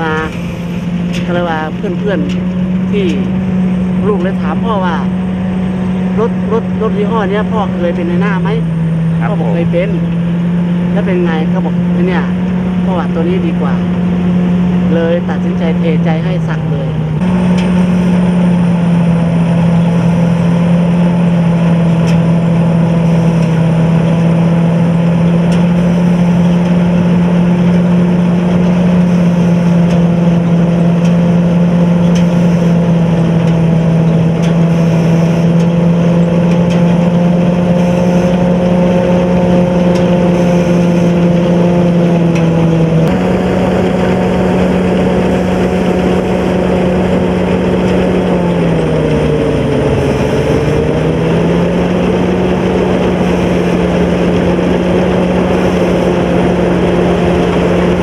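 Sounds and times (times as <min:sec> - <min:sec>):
combine harvester diesel drone: 0:00.0 - 0:58.0.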